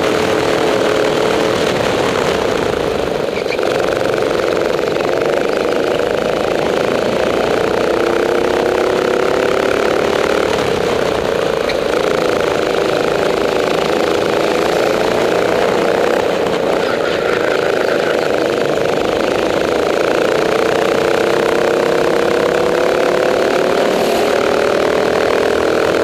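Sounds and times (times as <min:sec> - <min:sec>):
kart engine running: 0:00.0 - 0:26.0.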